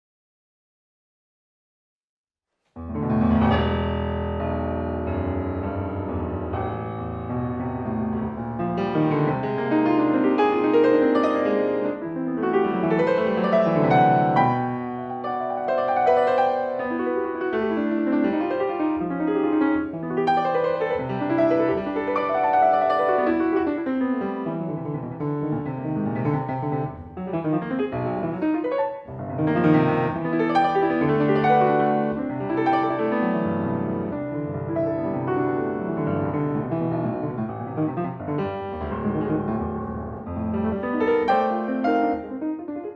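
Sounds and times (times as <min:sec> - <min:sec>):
solo piano playing: 0:02.8 - 0:42.9.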